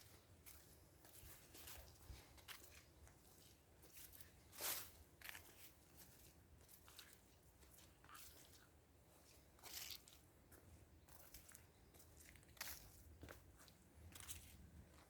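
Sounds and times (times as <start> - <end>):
footsteps on muddy dirt road: 0.0 - 15.0.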